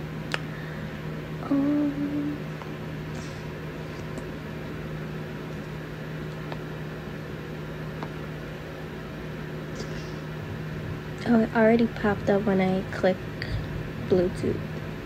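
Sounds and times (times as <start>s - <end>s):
room background hiss: 0.0s - 15.0s
steady low hum: 0.0s - 15.0s.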